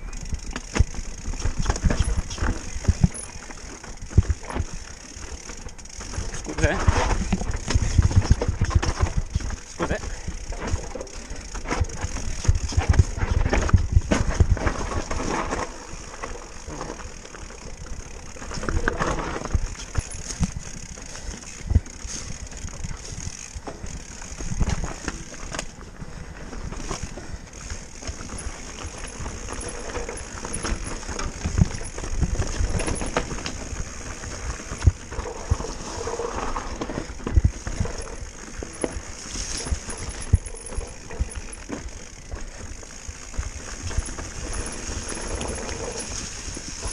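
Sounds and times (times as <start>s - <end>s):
bike clattering and knocking: 0.2s - 35.7s, 36.6s - 46.9s.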